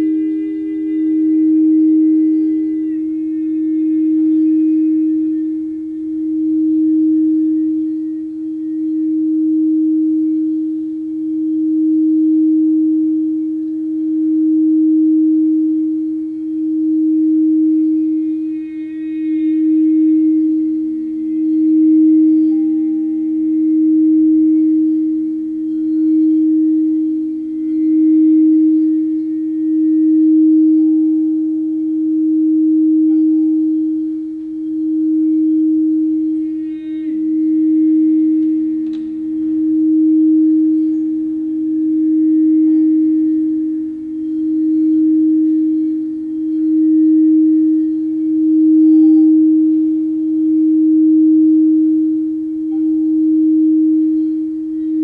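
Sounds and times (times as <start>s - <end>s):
faint second bowl tone: 0.0s - 55.0s
singing bowl steady low tone: 0.0s - 55.0s.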